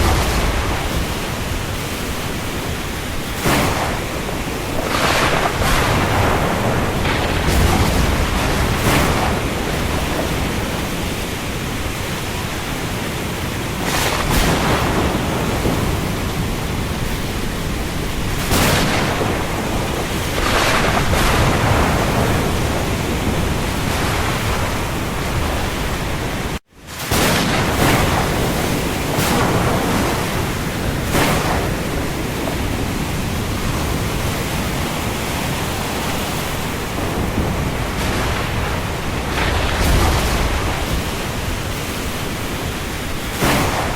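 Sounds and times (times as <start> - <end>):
rain falling on sea: 0.0 - 43.9.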